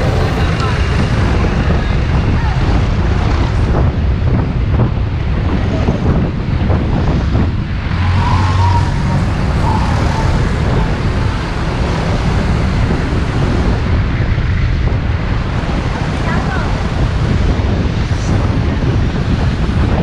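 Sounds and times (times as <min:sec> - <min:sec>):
motorcycle and road rumble: 0:00.0 - 0:20.0
wind rushing over microphone: 0:00.0 - 0:20.0.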